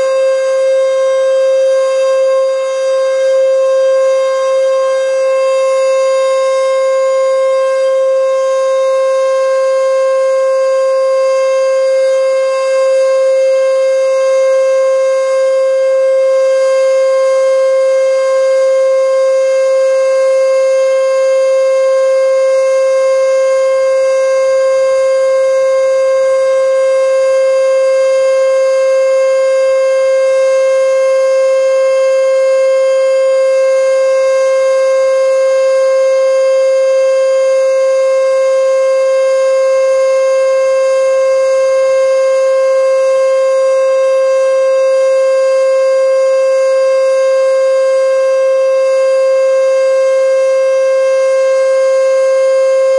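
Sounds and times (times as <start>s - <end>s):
warning siren steady tone: 0.0s - 52.9s.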